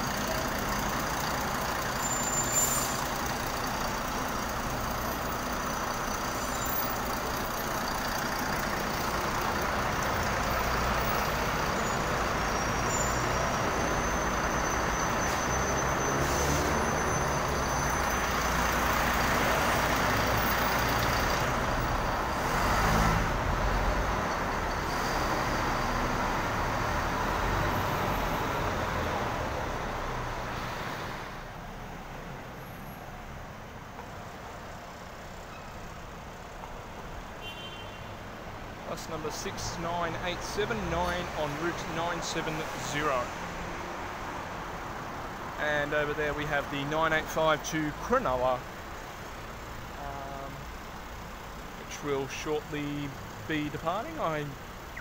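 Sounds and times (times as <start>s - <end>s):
bus engines idling and pulling away: 0.0s - 55.0s.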